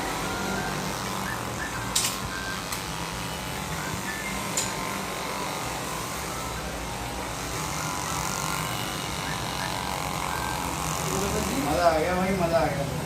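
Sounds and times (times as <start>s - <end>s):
electric massager buzzing: 0.0s - 13.0s.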